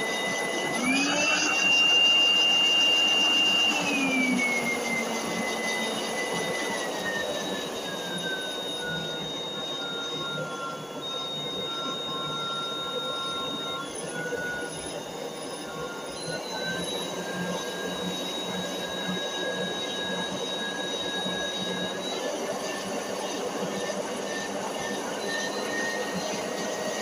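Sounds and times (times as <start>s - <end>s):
steady high squeal: 0.0s - 27.0s.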